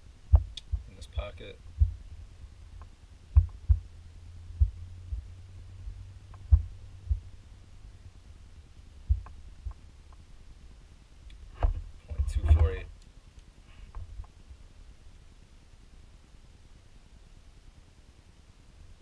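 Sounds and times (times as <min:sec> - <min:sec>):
low hum: 0:00.0 - 0:17.4.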